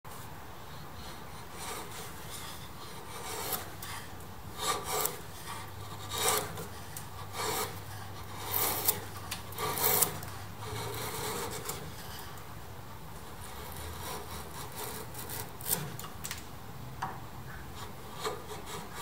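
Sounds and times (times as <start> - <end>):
chisel scraping wood: 1.0 - 12.4, 13.2 - 16.2, 17.6 - 19.0.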